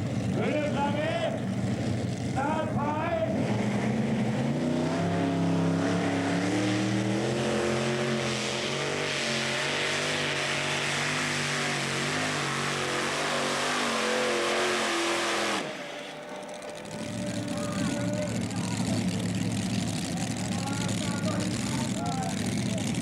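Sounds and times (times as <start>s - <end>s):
tractor engine running hard: 0.0s - 23.0s.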